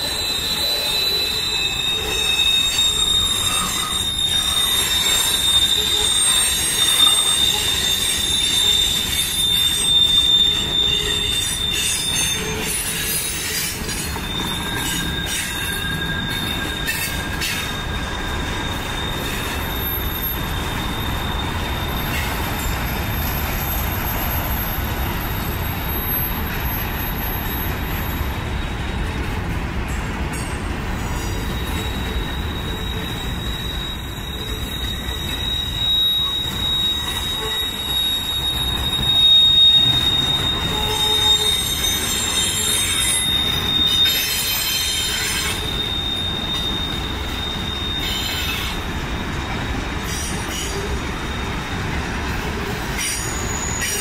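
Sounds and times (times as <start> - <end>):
high-pitched wheel squeal: 0.0 - 28.8, 30.9 - 54.0
train rumbling past: 0.0 - 54.0.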